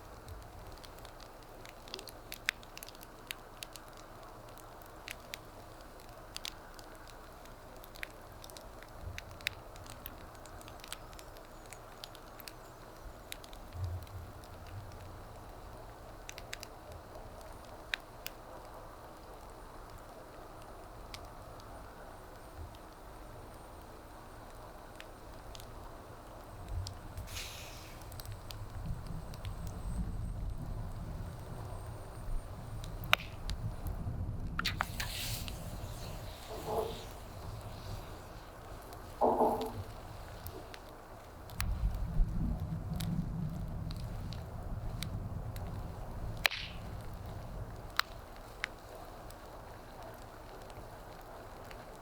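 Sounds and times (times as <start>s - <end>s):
fire crackles and pops: 0.0s - 52.0s
wood fire hissing: 0.0s - 52.0s.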